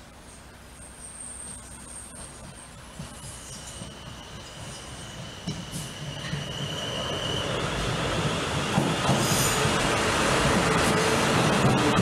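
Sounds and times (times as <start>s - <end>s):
high whine from rails: 0.0s - 12.0s
train wheels on rails: 0.4s - 12.0s.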